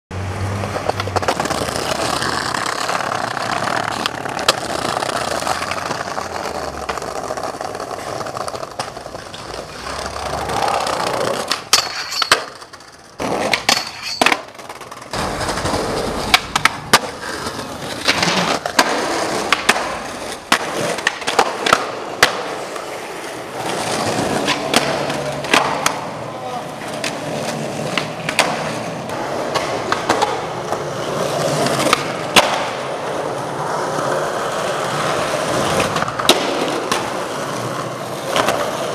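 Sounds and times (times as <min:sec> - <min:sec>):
skateboard wheels rolling: 0:00.2 - 0:38.9
skateboard clacks: 0:00.5 - 0:38.9.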